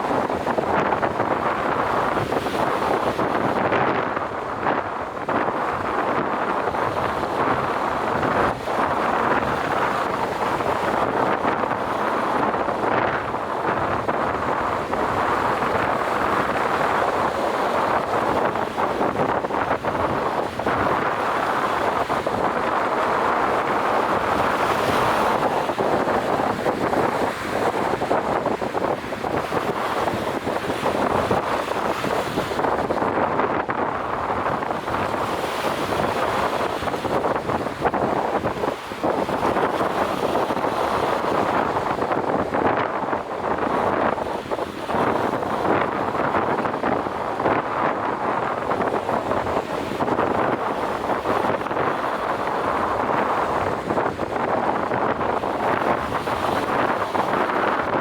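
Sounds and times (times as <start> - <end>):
sea waves rushing: 0.0 - 58.0
wind buffeting microphone: 0.0 - 58.0.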